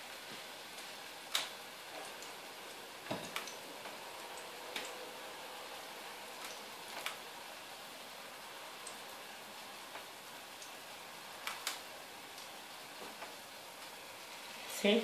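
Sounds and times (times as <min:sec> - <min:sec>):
faint oil sizzle: 0:00.0 - 0:15.0.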